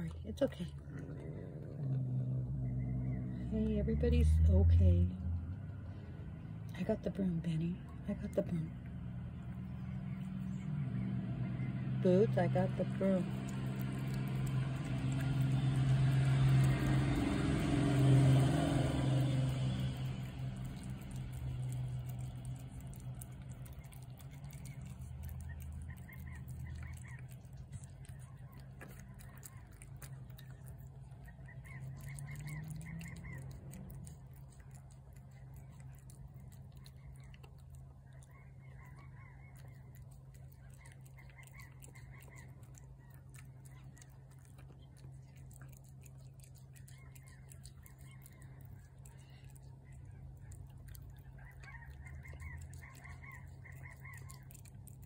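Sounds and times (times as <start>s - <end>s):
cat chewing and licking: 0.0s - 55.0s
engine humming: 0.0s - 55.0s.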